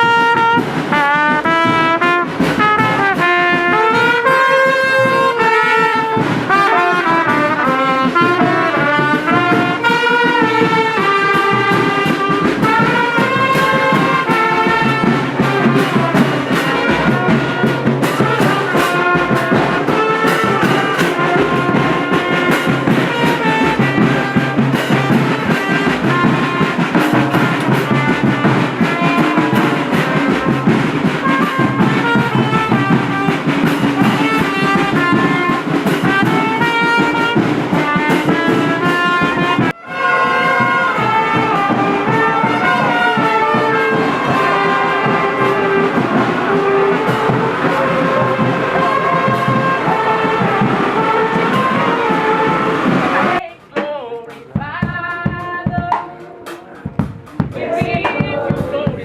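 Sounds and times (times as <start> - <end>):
brass instruments playing melody: 0.0 - 53.6
steady beat: 0.0 - 59.0.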